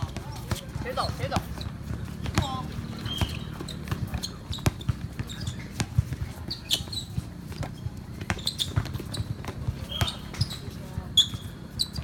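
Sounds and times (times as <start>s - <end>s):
basketball bouncing: 0.0s - 12.0s
shoe squeaks: 0.0s - 12.0s.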